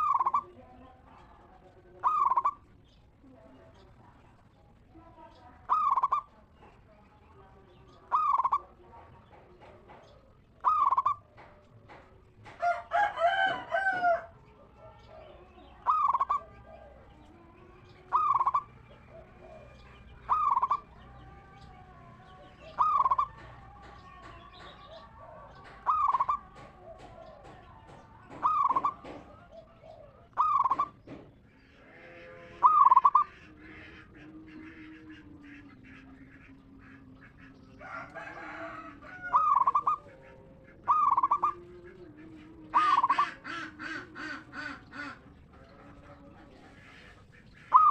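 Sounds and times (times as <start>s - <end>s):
dove cooing: 0.0s - 2.8s, 5.6s - 6.6s, 8.0s - 31.2s, 31.9s - 47.9s.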